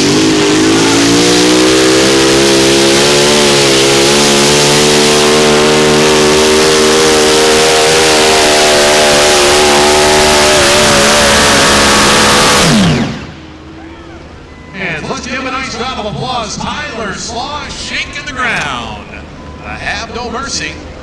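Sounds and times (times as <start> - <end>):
tractor engine howling at full throttle: 0.0 - 21.0.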